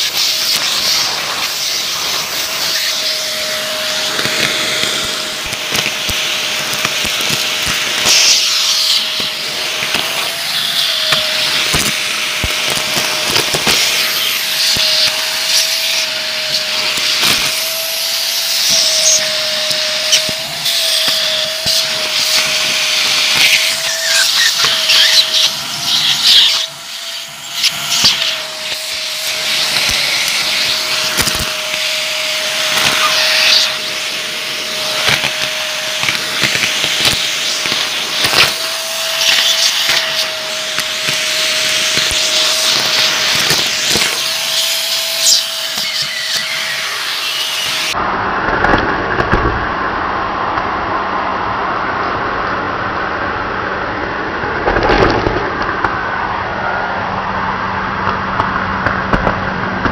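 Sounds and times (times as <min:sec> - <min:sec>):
debris crackling in vacuum nozzle: 0:00.0 - 0:48.0
vacuum cleaner whining: 0:00.0 - 0:59.9.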